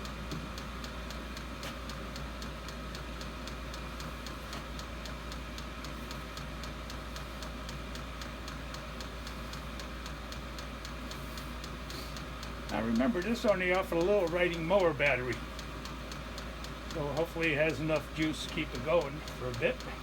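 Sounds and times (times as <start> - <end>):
fuel pump ticking: 0.0 - 20.0
heater low hum: 0.0 - 20.0.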